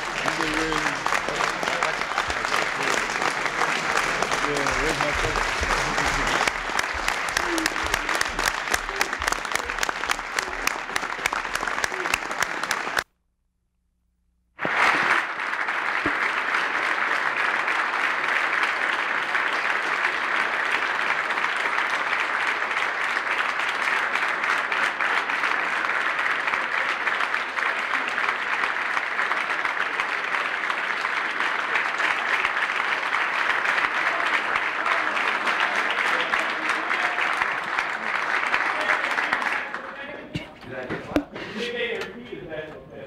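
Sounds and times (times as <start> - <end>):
roomful of people applauding: 0.0 - 13.1, 14.6 - 42.2.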